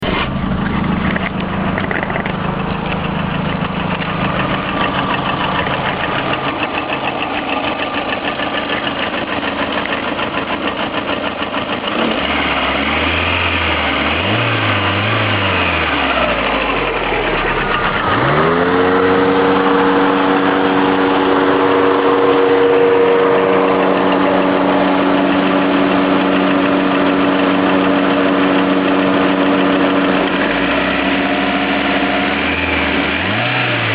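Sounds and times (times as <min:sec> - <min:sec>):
car engine idling with knock: 0:00.0 - 0:12.2, 0:15.9 - 0:33.9.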